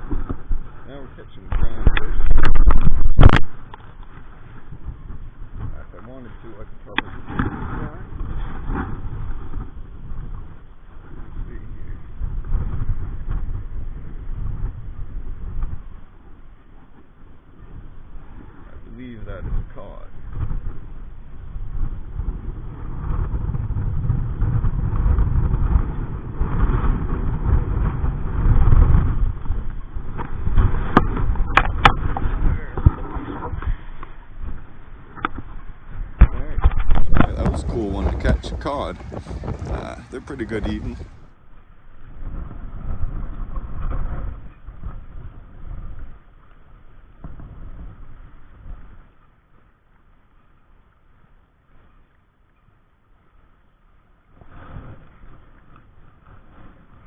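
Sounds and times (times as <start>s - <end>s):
wind buffeting microphone: 0.0s - 49.8s, 53.0s - 57.0s.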